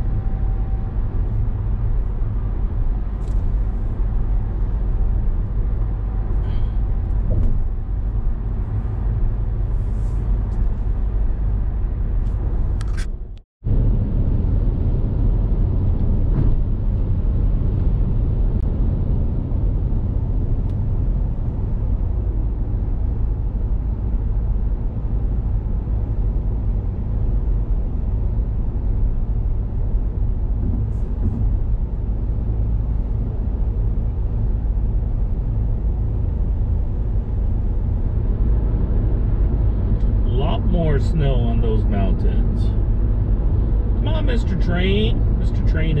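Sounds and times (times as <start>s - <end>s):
car road and engine noise: 0.0s - 46.0s.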